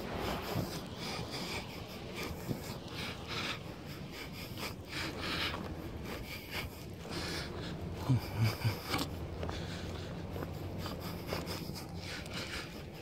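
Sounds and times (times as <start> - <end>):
footsteps on pavement: 0.0 - 13.0.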